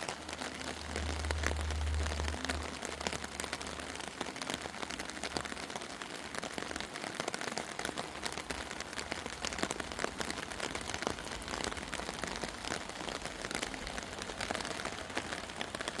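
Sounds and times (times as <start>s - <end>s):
rain drops ticking on hard surface: 0.0s - 16.0s
steady rain hiss: 0.0s - 16.0s.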